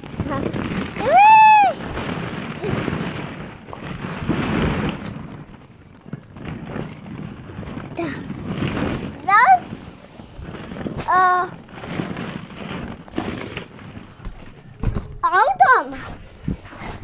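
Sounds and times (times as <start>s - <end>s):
plastic balls clattering and rustling: 0.0s - 17.0s.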